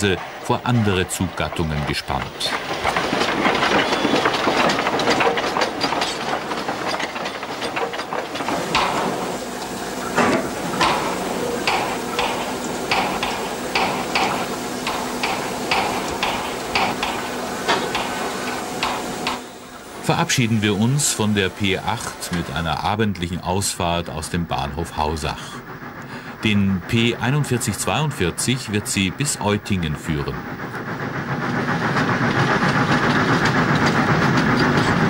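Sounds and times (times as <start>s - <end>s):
locomotive puffing: 0.0s - 35.0s
steam locomotive hissing steam: 0.0s - 35.0s.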